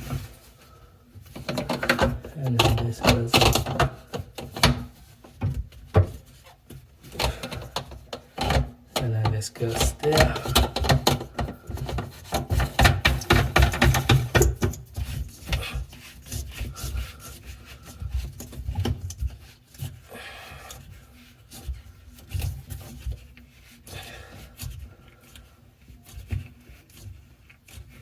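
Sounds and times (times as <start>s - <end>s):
plastic parts rubbing and scraping: 0.0s - 28.0s.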